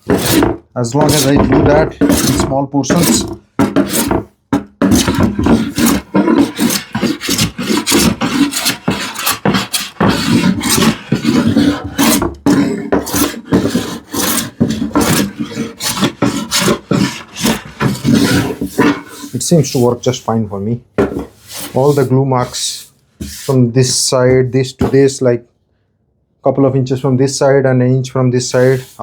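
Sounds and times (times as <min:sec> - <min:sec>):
hand plane scraping wood: 0:00.0 - 0:20.4, 0:21.0 - 0:25.1, 0:28.5 - 0:29.0.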